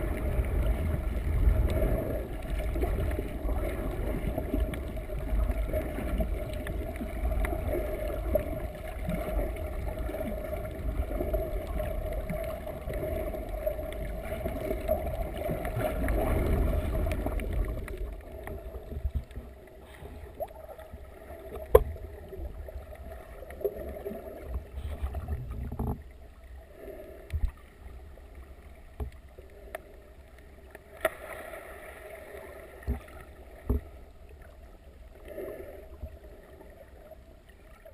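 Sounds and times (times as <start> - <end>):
muffled underwater rush: 0.0 - 37.9.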